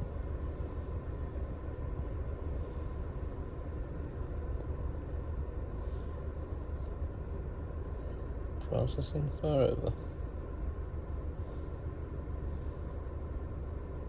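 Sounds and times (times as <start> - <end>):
faint steady hum: 0.0 - 14.0
low rumble in car cabin: 0.0 - 14.0.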